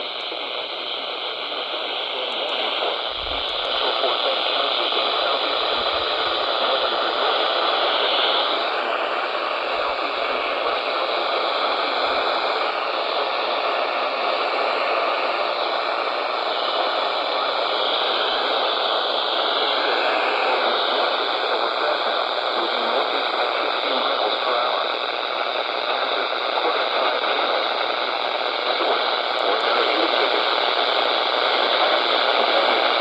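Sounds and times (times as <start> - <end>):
radio static hiss: 0.0 - 33.0.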